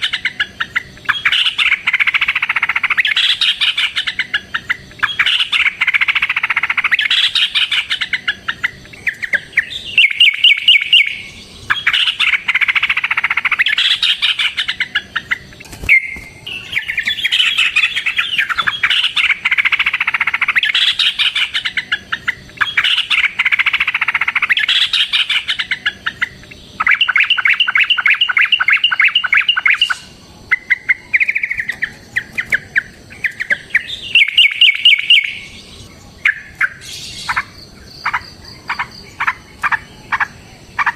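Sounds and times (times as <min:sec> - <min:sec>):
bulbul song rapid chattering: 0:00.0 - 0:40.9.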